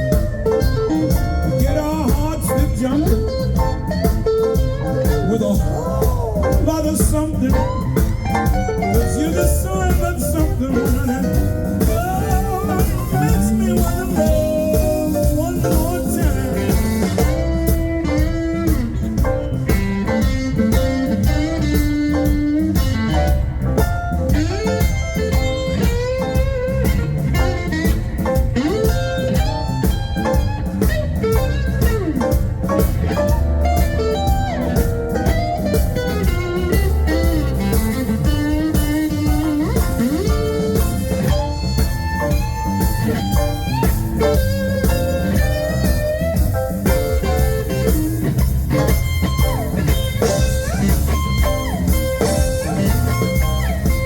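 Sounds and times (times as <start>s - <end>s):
blues band playing: 0.0s - 54.0s
electric guitar: 0.0s - 54.0s.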